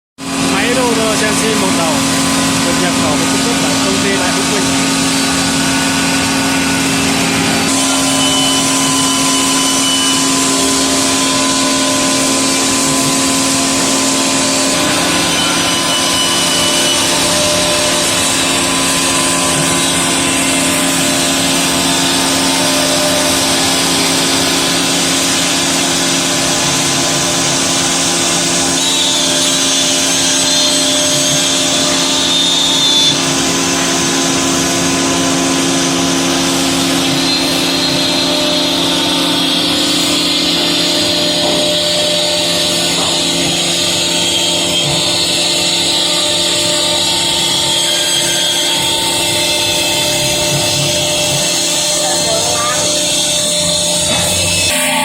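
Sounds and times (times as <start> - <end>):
router bit hissing through wood: 0.2 - 55.0
router spindle humming: 0.2 - 55.0.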